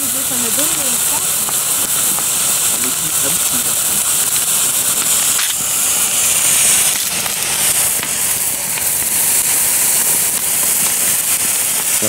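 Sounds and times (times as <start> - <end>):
fountain firework hissing: 0.0 - 12.0.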